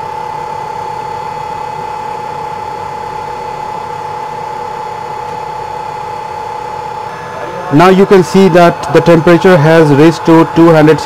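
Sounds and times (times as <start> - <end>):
hot-air fans whirring with whine: 0.0 - 11.0.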